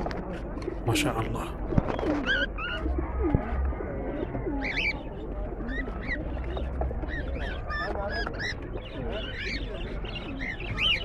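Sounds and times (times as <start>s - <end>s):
birds chirping: 0.6s - 11.0s
pigeons cooing: 0.7s - 11.0s.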